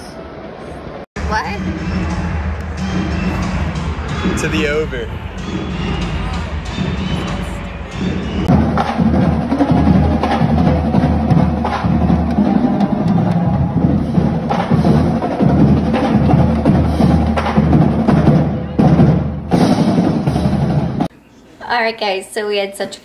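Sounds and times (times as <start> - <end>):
drum-heavy music: 1.2 - 21.1.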